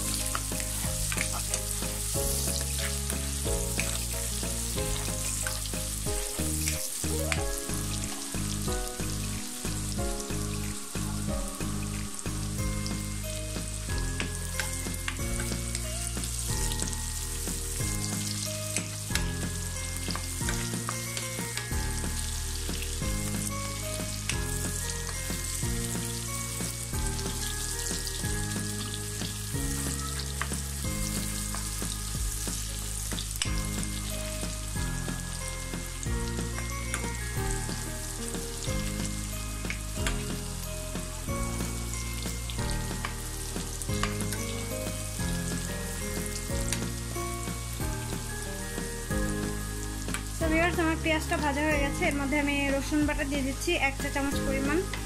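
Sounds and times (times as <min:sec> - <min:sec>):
background music with bass: 0:00.0 - 0:55.0
onions sizzling in hot oil: 0:00.0 - 0:55.0.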